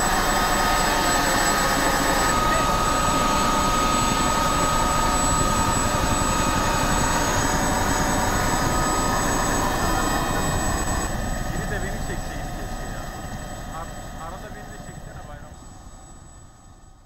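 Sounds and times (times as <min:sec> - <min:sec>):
high whine: 0:00.0 - 0:16.5
helicopter rotor noise: 0:00.0 - 0:17.0.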